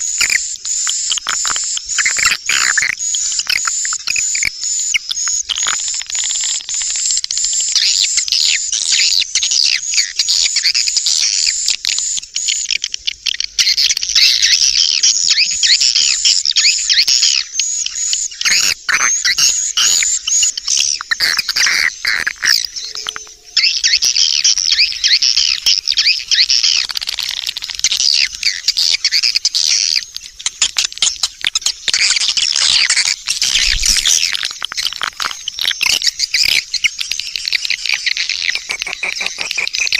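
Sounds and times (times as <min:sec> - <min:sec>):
birds twittering chirps: 0:00.0 - 0:39.9.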